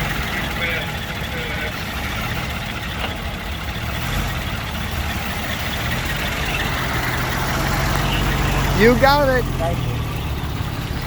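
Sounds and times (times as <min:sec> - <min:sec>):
old car engines running slowly: 0:00.0 - 0:11.0.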